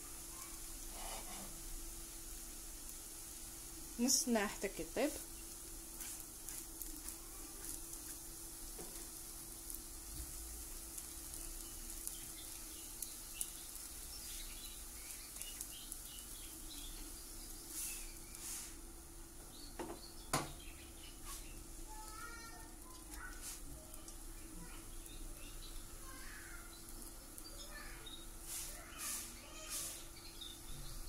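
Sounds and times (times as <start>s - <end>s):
crepe sizzling in frying pan: 0.0s - 31.0s.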